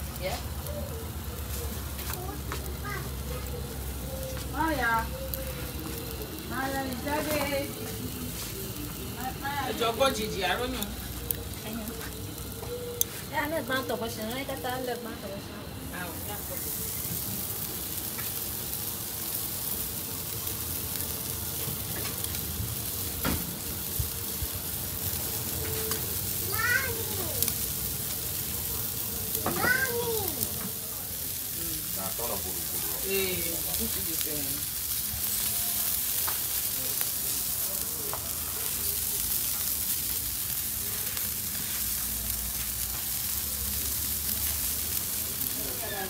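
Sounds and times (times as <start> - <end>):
fat hissing on hot coals: 0.0 - 46.0
fish sizzling on a grill: 0.0 - 46.0
small crackles: 0.0 - 46.0.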